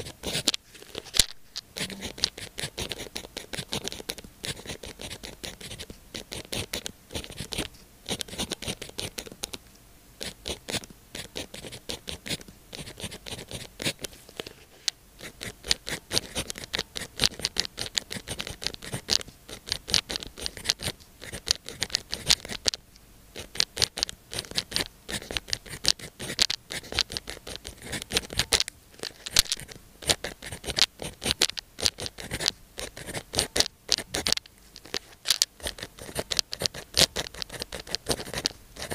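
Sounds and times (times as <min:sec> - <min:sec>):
pen scratching on paper: 0:00.0 - 0:01.2, 0:01.8 - 0:09.4, 0:10.2 - 0:22.7, 0:23.4 - 0:28.5, 0:29.2 - 0:34.4, 0:35.6 - 0:38.9.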